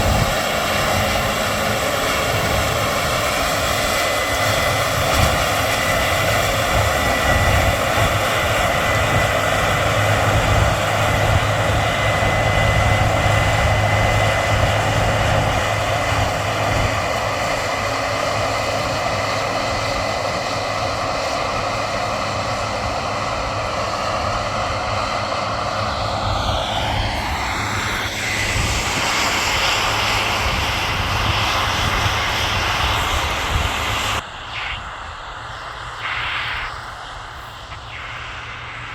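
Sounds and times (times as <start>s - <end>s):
combine harvester whining: 0.0s - 38.9s.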